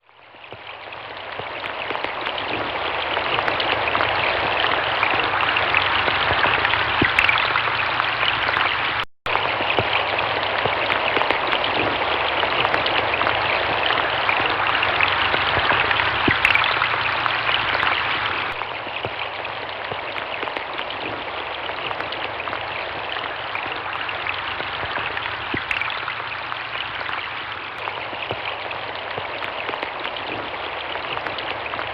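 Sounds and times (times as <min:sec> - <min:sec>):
rain falling: 0:00.0 - 0:31.9
raindrop ticks: 0:00.0 - 0:31.9.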